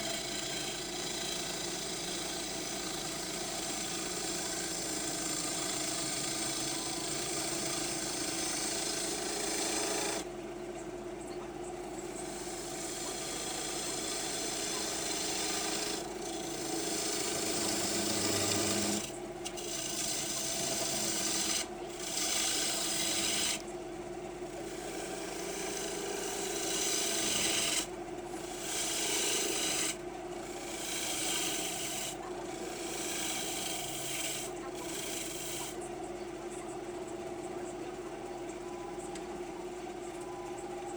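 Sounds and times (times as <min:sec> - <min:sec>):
gouge scraping spinning wood: 0:00.0 - 0:10.3, 0:11.9 - 0:35.9
lathe motor hum: 0:00.0 - 0:40.9.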